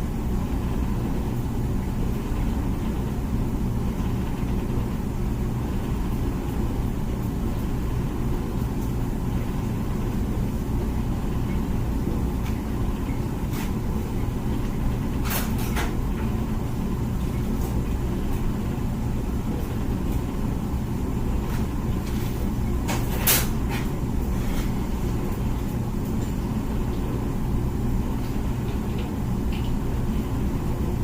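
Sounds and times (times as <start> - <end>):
dishwasher pump motor hum: 0.0 - 31.0.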